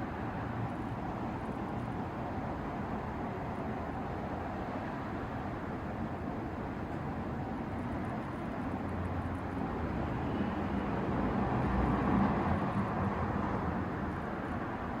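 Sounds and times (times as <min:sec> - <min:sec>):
outdoor traffic rumble: 0:00.0 - 0:15.0.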